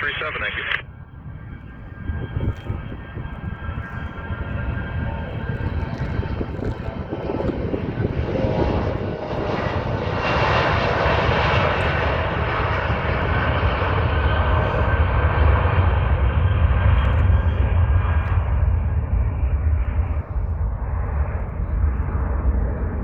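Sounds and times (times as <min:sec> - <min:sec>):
deep rumble: 0:00.0 - 0:23.0
jet engines at takeoff power: 0:00.0 - 0:23.0.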